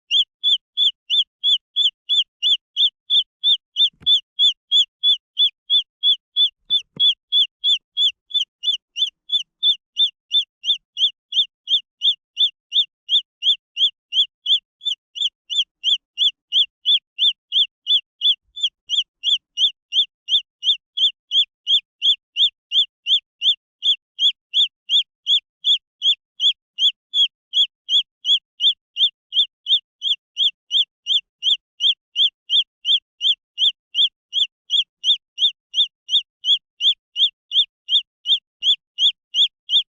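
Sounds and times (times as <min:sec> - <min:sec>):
chick peeping: 0:00.0 - 0:39.9.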